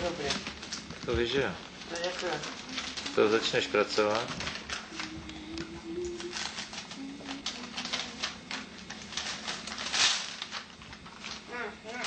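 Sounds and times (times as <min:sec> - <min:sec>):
wrapping paper crinkling: 0:00.0 - 0:12.0.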